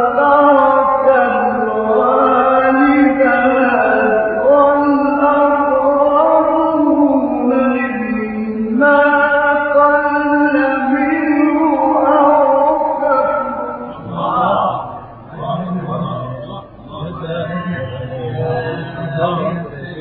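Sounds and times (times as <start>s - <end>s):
man reciting melodically: 0.0s - 20.0s.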